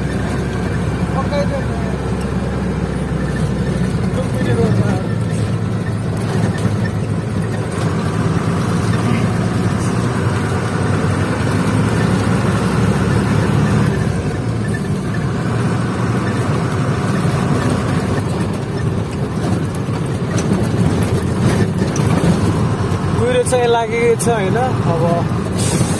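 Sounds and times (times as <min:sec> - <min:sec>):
road noise: 0:00.0 - 0:25.9
truck engine running: 0:00.0 - 0:25.9.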